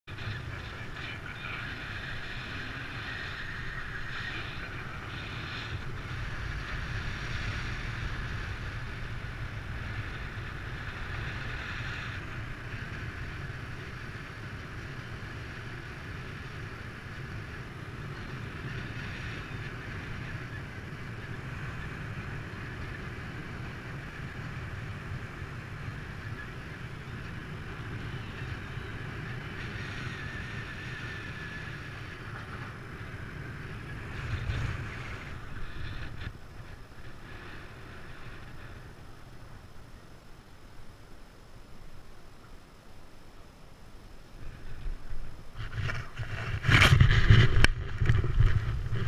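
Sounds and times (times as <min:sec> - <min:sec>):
wind rushing over microphone: 0:00.1 - 0:40.0, 0:44.3 - 0:49.0.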